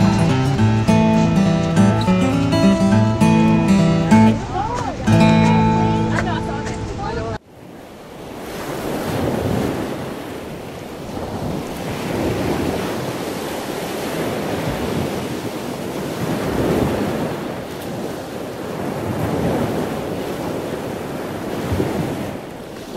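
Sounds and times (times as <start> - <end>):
wind buffeting the microphone: 3.6 - 22.9.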